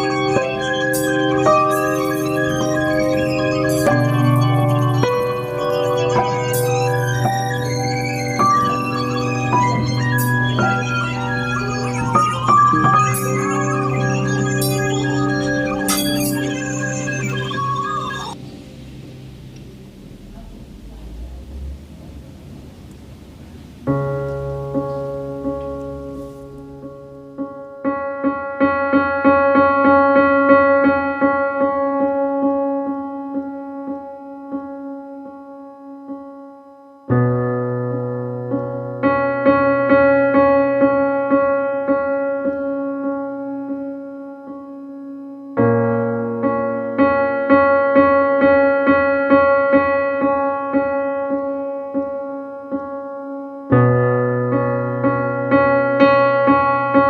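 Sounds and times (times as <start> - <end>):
piano background music: 0.0 - 57.0.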